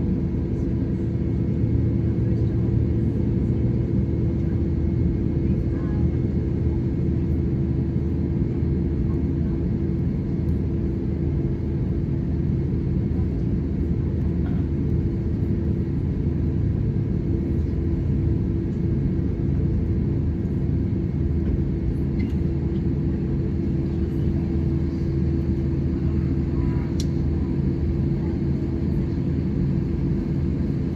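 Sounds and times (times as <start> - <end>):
airliner engines rumbling in cabin: 0.0 - 30.9
mid-pitched hum: 0.0 - 30.9.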